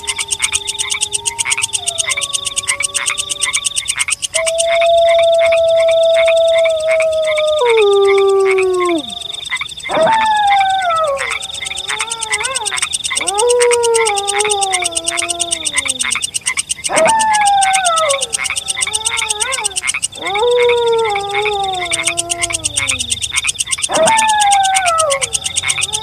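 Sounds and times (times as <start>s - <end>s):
frogs croaking: 0.0s - 26.0s
wolf howling: 0.0s - 26.0s.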